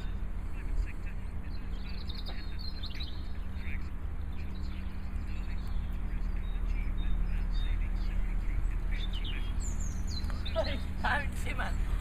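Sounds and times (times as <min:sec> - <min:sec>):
songbirds chirping: 0:00.0 - 0:12.0
steady low hum: 0:00.0 - 0:12.0.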